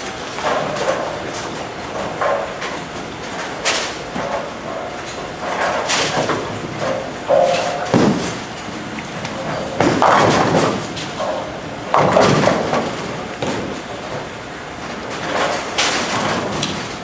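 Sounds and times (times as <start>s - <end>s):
bowling balls rolling: 0.0s - 17.0s
bowling pins clattering: 0.0s - 17.0s.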